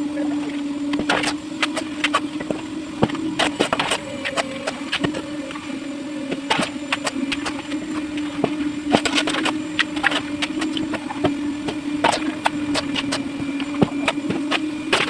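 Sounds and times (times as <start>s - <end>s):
machine engine humming: 0.0s - 15.0s.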